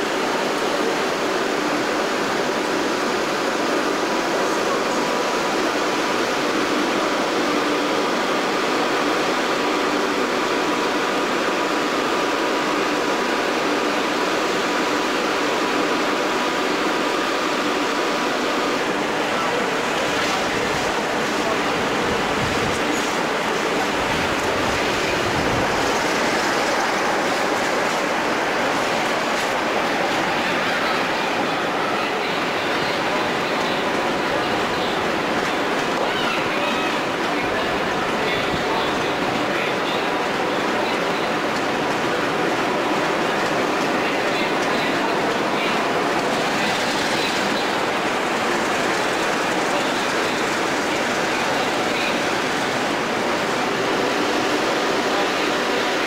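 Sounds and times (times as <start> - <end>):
locomotive engine drone: 0.0 - 56.0.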